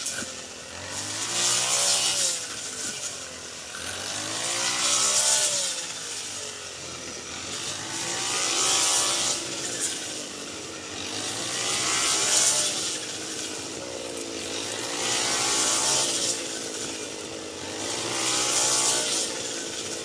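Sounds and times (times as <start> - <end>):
combine harvester engine: 0.0 - 20.0.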